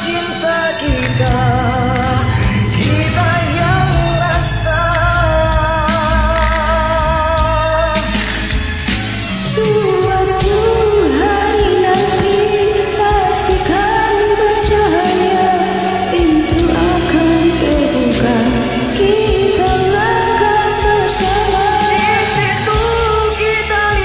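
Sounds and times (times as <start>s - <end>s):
woman singing a slow ballad: 0.0s - 8.6s, 9.3s - 24.0s
karaoke backing track with beat: 0.0s - 24.0s.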